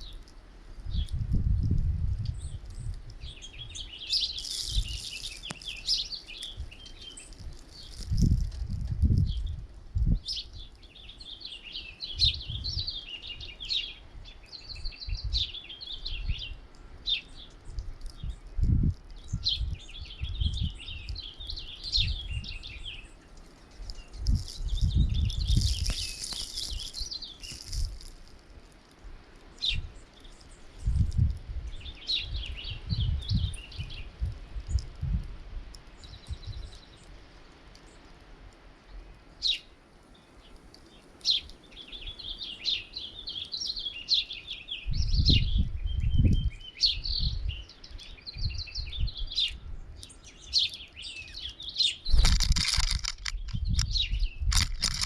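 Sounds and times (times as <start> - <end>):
wind buffeting microphone: 0.0 - 11.4, 12.0 - 28.3, 29.0 - 37.1, 44.7 - 50.7, 52.0 - 55.0
small songbirds chirping: 0.0 - 55.0.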